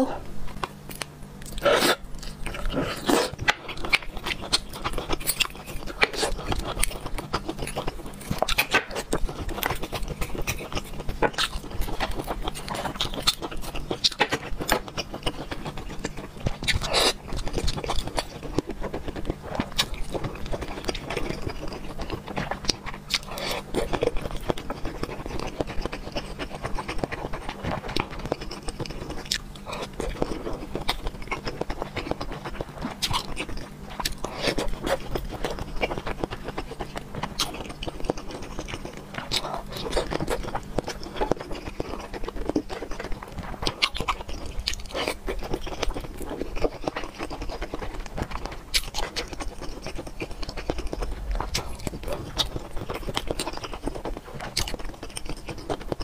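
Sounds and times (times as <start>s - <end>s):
wet chewing and mouth smacks: 0.5s - 56.0s.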